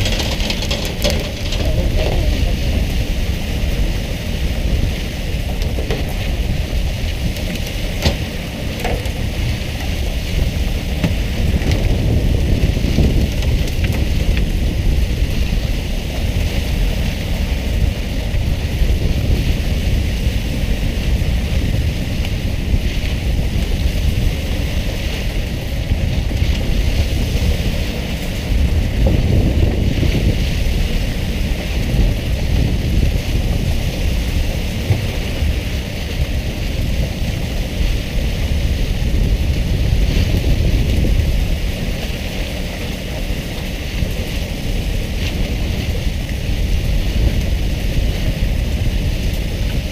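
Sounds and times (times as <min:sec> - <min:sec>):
boat engine: 0:00.0 - 0:49.9
low rumble of wind: 0:00.0 - 0:49.9.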